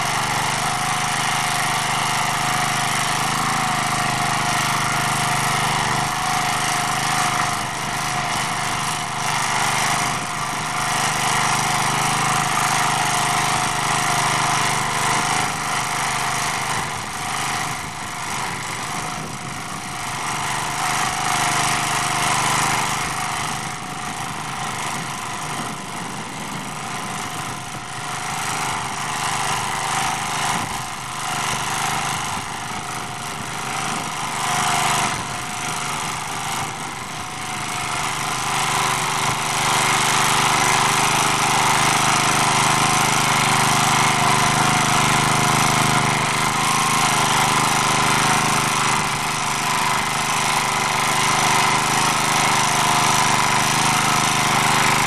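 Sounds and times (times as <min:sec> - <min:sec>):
rotary tiller churning soil: 0:00.0 - 0:55.0
small tractor engine running: 0:00.0 - 0:55.0.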